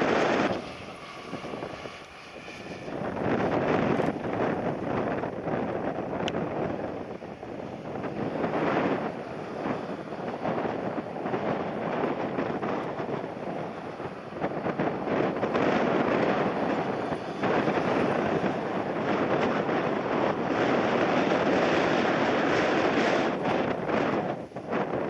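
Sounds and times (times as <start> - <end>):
airliner jet noise: 0.0 - 25.0
wind buffeting microphone: 0.0 - 25.0.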